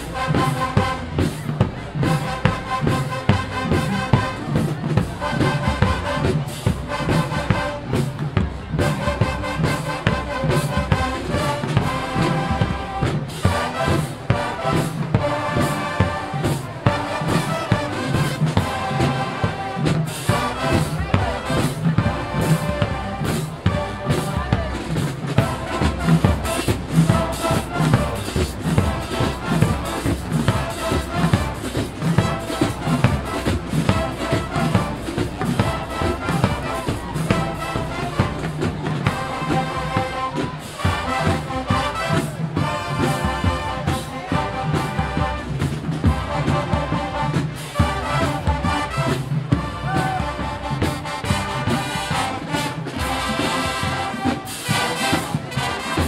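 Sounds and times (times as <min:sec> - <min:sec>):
brass horns playing tune: 0:00.0 - 0:01.4, 0:02.0 - 0:08.2, 0:08.8 - 0:56.0
marching drumline beat: 0:00.0 - 0:56.0.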